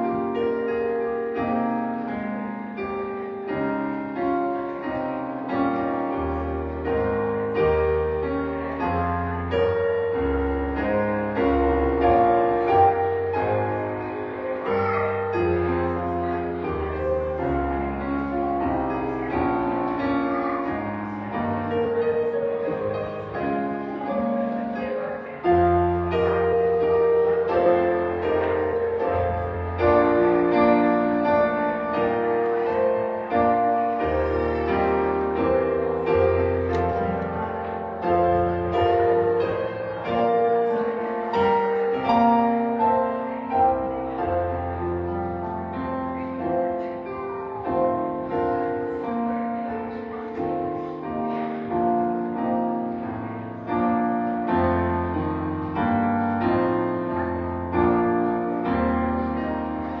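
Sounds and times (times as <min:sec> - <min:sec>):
slow piano music: 0:00.0 - 1:00.0.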